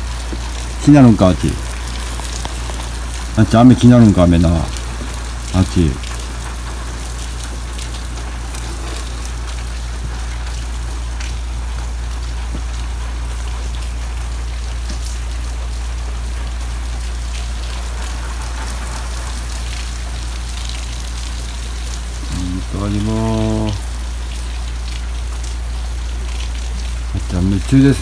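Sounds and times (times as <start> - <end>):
rain falling: 0.0 - 28.0
raindrops ticking: 0.0 - 28.0.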